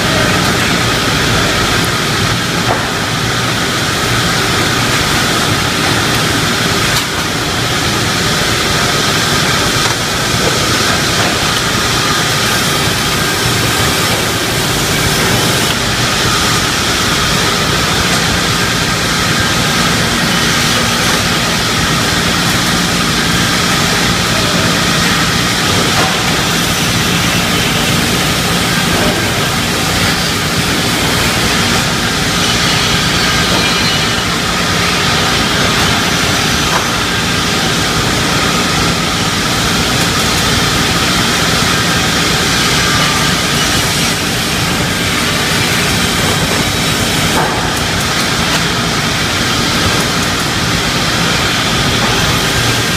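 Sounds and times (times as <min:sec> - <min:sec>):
saw machine running: 0:00.0 - 0:52.9.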